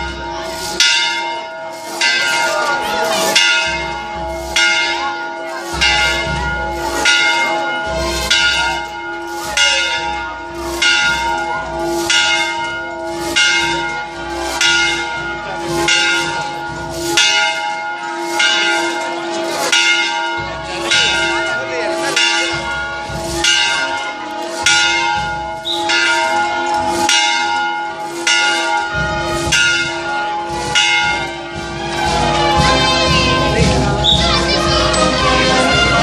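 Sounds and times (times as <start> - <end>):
church bell tolling: 0.0 - 36.0.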